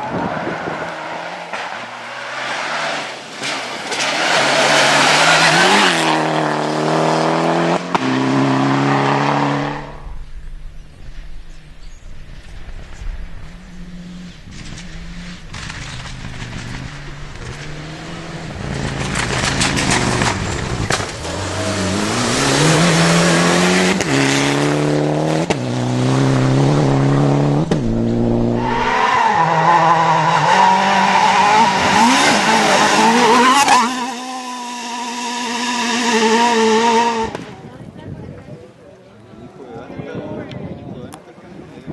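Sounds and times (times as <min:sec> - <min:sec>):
rally car engine revving: 0:00.0 - 0:10.9, 0:12.4 - 0:37.6.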